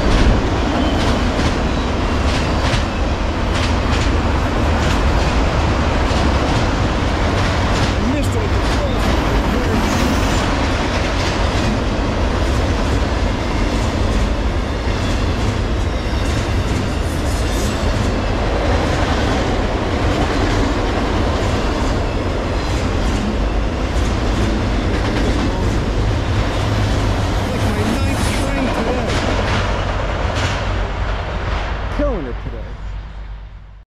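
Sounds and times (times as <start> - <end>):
steel train wheels on rail: 0.0 - 33.4.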